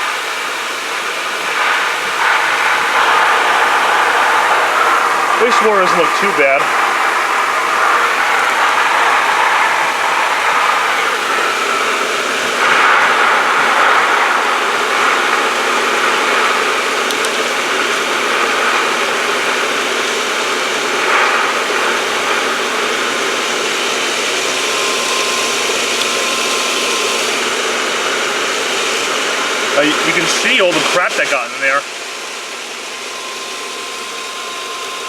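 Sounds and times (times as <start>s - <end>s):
pool pump running: 0.0s - 35.0s
water rushing through plumbing: 0.0s - 35.0s.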